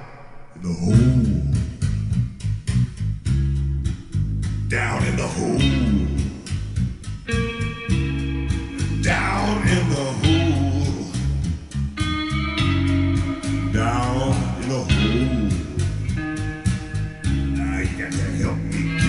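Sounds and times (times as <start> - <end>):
bass line: 0.0 - 19.0
blues guitar over loudspeakers: 0.0 - 19.0.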